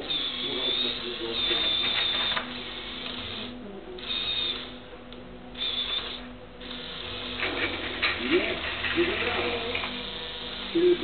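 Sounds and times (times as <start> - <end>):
toy electric motors whirring: 0.0 - 4.8, 5.6 - 11.0.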